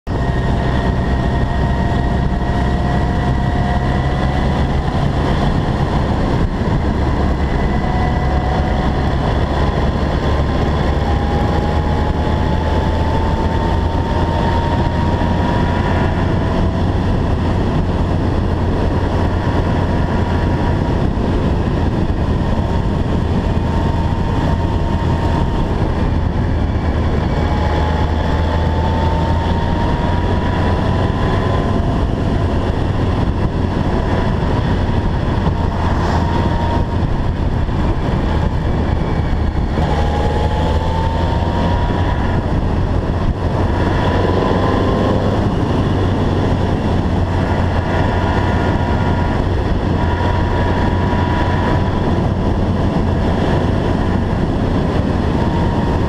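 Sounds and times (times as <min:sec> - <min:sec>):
motorcycle engine whine: 0:00.0 - 0:56.0
wind and road noise: 0:00.0 - 0:56.0.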